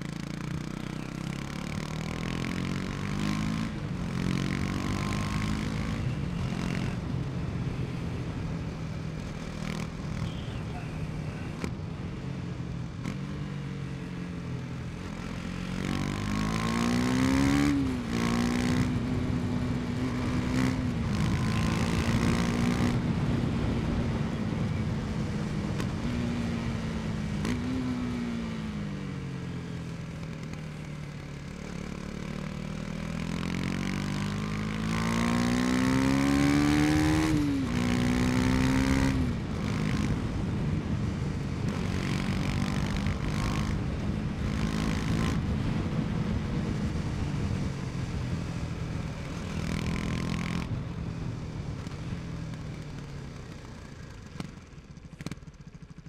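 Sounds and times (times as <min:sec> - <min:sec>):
motorcycle engine revving: 0:00.0 - 0:11.8, 0:12.9 - 0:56.0.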